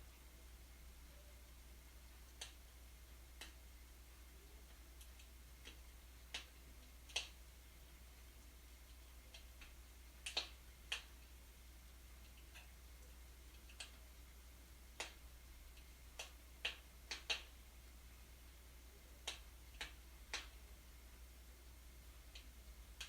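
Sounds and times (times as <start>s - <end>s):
faint low hum: 0.0s - 23.0s
wood fire crackling: 0.1s - 23.0s.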